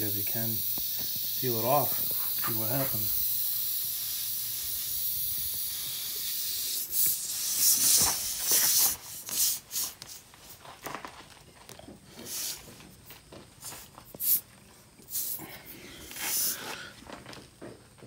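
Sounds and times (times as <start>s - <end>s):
air hissing from tire: 0.0s - 10.6s, 12.1s - 12.8s, 13.6s - 17.0s.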